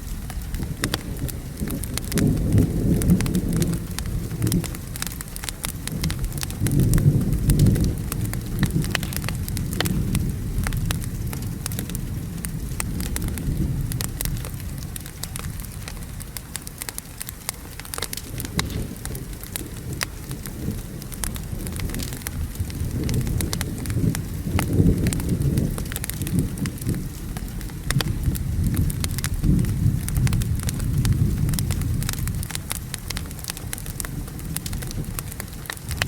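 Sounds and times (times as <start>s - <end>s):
rolling thunder rumble: 0.0s - 16.3s, 17.9s - 36.0s
steady rain: 0.0s - 36.0s
wood fire crackling: 0.0s - 36.0s.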